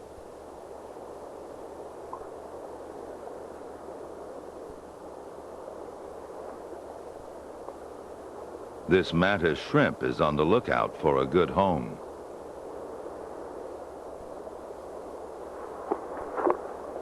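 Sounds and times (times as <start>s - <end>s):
underwater ambience hiss: 0.0s - 17.0s.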